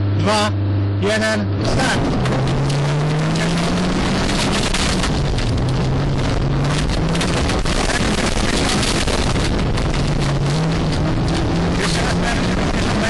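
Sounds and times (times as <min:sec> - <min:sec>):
car engine accelerating: 0:00.0 - 0:13.0
road and wind noise: 0:00.0 - 0:13.0.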